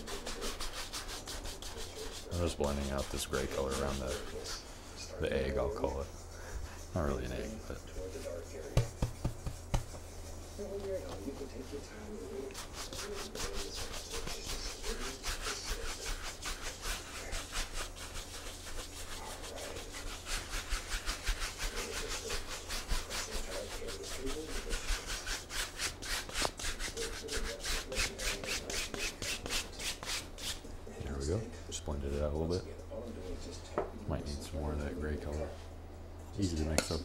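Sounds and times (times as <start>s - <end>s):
brush scrubbing on canvas: 0.0s - 30.7s.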